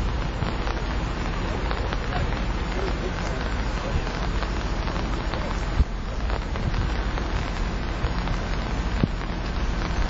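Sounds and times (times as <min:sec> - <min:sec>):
low rumble: 0:00.0 - 0:10.0
water rushing: 0:00.0 - 0:10.0.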